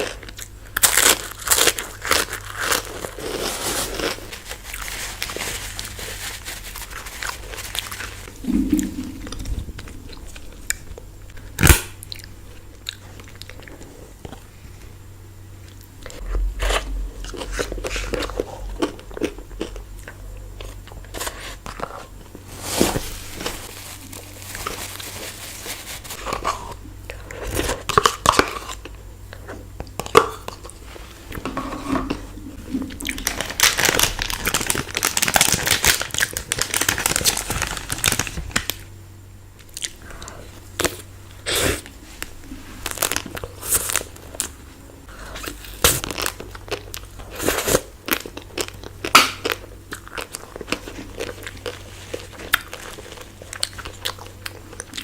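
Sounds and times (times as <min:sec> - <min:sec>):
chewing ice cream bars: 0:00.0 - 0:08.3, 0:09.3 - 0:14.6, 0:15.5 - 0:22.5, 0:23.4 - 0:31.5, 0:32.1 - 0:38.9, 0:39.5 - 0:55.0.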